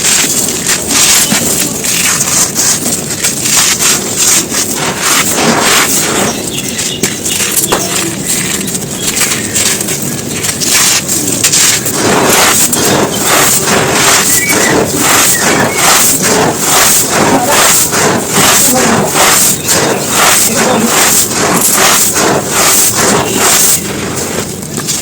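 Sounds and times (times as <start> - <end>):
dry material crunching: 0.0 - 25.0
sharp crunches: 0.0 - 25.0.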